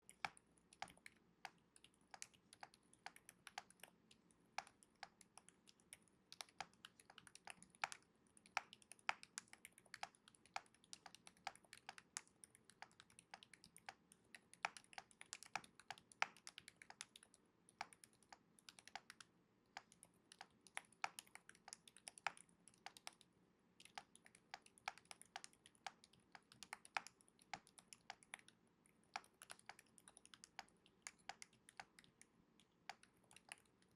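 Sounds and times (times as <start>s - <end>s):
quiet keyboard typing: 0.0s - 33.9s.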